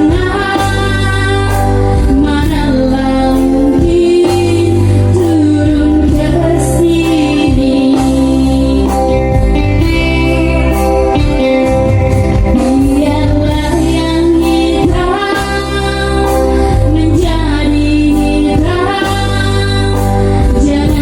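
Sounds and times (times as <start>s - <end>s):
woman singing: 0.0s - 11.7s, 12.3s - 21.0s
instrumental accompaniment with bass: 0.0s - 21.0s.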